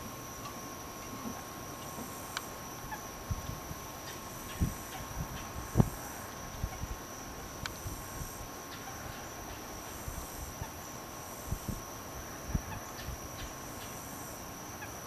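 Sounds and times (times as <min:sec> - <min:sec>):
faint high whine: 0:00.0 - 0:15.0
microphone hiss: 0:00.0 - 0:15.0.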